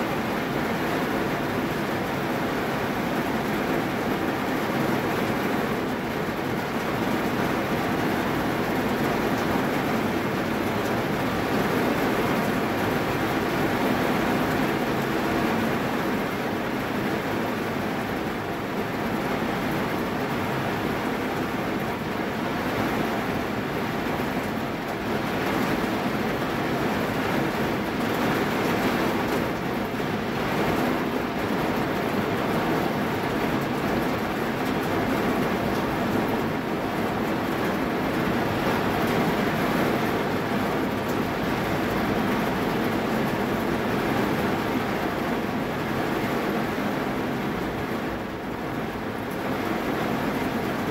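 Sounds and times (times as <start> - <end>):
heavy rain on car roof: 0.0 - 50.9.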